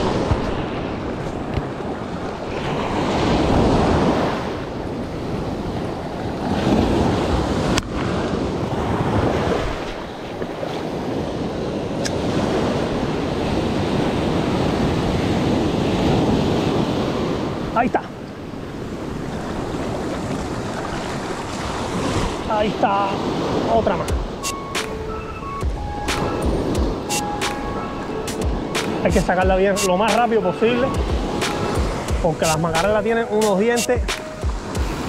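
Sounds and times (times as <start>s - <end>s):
wind rumbling on microphone: 0.0s - 29.7s
ocean surf breaking: 0.0s - 35.0s.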